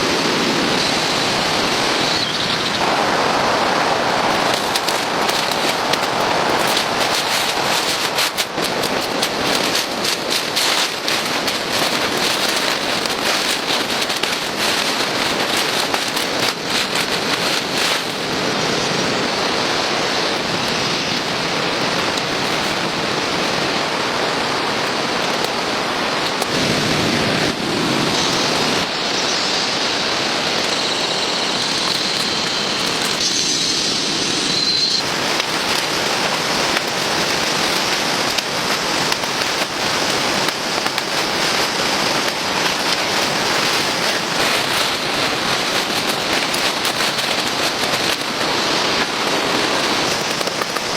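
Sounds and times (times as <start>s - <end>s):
heavy rain hissing: 0.0s - 50.9s.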